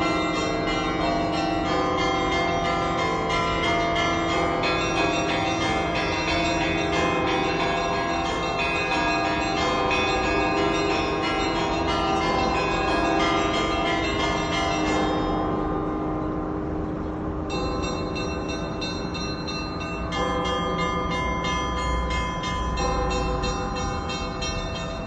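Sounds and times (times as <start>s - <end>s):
deeper bells ringing: 0.0s - 25.0s.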